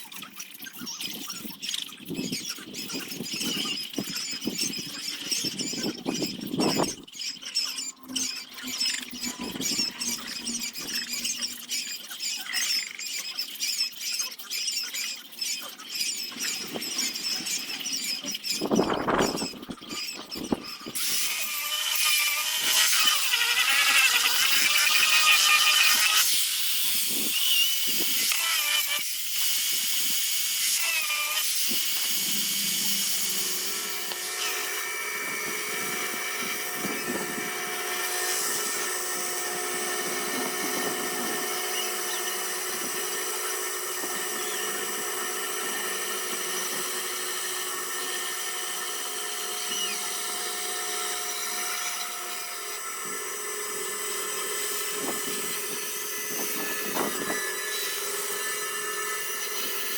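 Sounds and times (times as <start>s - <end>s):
rotary carving tool on wood: 0.0s - 59.9s.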